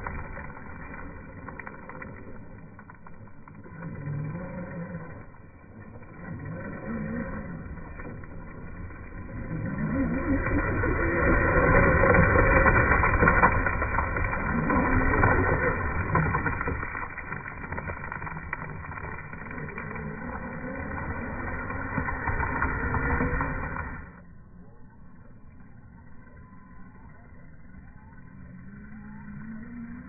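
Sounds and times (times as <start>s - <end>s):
slowed toy truck motor whining: 0.0s - 24.2s, 25.7s - 30.0s.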